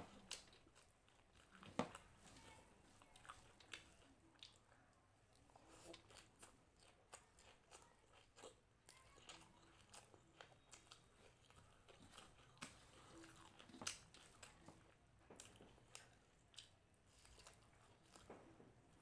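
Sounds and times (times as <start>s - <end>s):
person chewing crunchy food: 0.0s - 4.7s, 5.3s - 19.0s.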